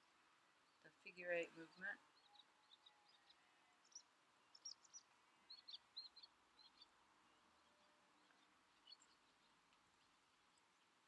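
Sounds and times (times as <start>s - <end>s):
faint bird chirps: 0.0s - 11.0s
outdoor background noise: 0.0s - 11.0s.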